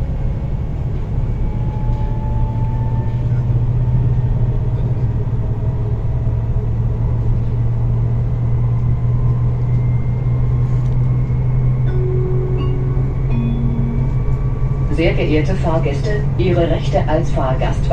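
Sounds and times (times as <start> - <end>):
train running gear rumble: 0.0 - 17.9.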